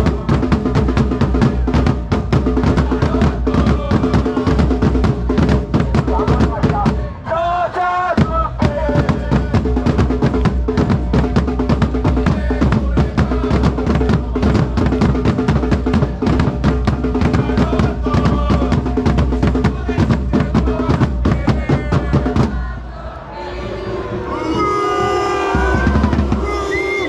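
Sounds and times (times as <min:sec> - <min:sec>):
marching snare and bass drums: 0:00.0 - 0:07.2, 0:08.1 - 0:22.8, 0:25.6 - 0:26.9.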